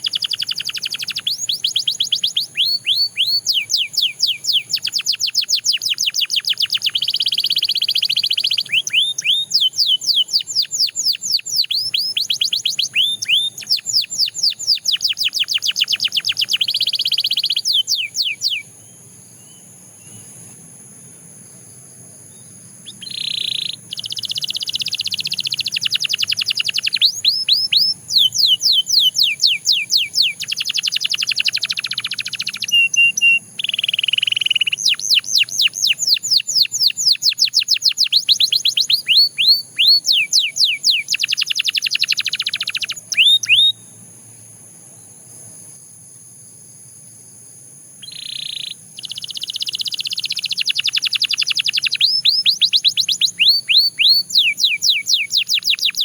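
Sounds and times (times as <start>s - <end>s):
canary singing fast trills: 0.0s - 44.2s, 47.6s - 56.0s.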